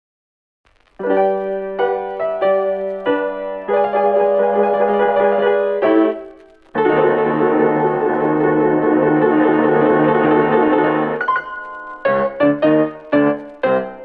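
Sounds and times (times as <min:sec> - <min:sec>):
piano chords: 0:01.0 - 0:14.0.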